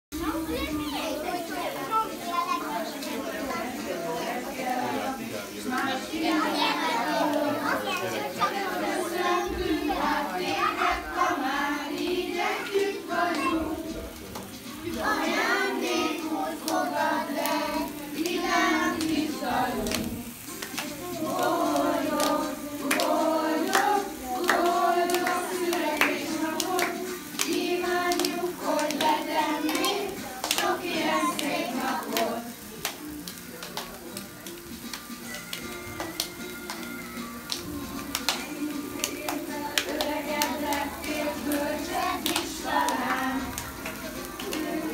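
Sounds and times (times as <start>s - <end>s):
children singing together: 1.2s - 14.2s, 14.8s - 32.7s, 35.6s - 44.9s.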